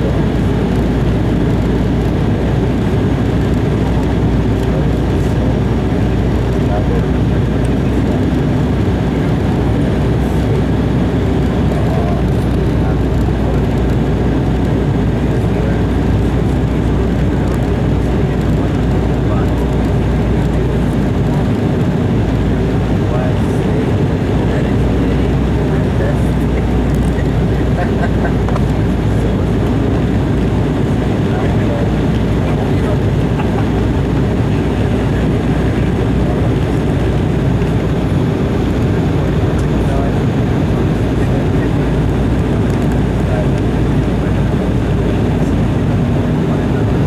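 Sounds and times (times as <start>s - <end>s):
airliner cabin rumble: 0.0s - 47.0s
jet engine noise: 0.0s - 47.0s.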